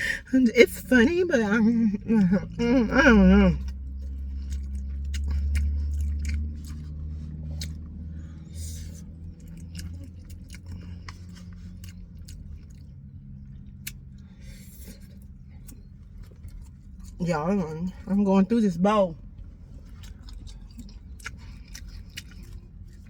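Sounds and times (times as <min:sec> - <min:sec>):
close chewing and eating: 0:00.0 - 0:23.0
steady low hum: 0:00.0 - 0:23.0.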